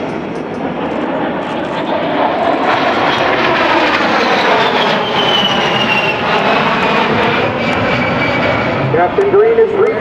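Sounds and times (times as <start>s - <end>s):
jet engine high whistle: 0.0s - 9.9s
jet engine rush: 0.0s - 10.0s.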